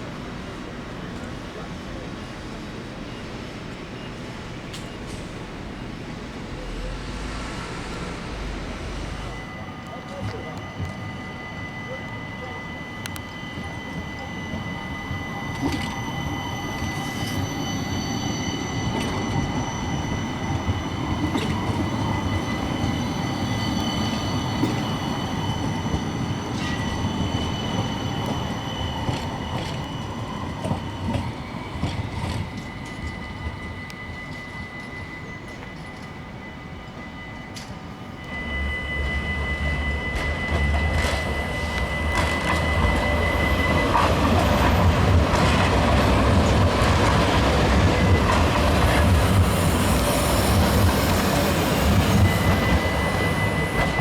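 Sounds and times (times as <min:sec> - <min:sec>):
deep rumble of approaching tram: 0:00.0 - 0:54.0
tram rolling on track: 0:00.0 - 0:54.0
high-pitched whining tones: 0:04.0 - 0:54.0.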